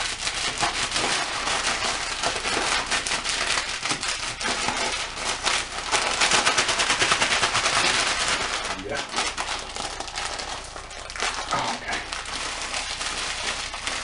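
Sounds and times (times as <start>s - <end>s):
plastic packet crackling: 0.0s - 14.0s.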